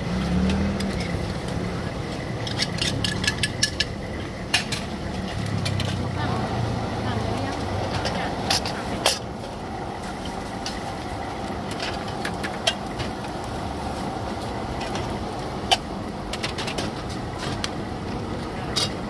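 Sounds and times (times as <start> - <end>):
gas burners rushing: 0.0 - 19.0.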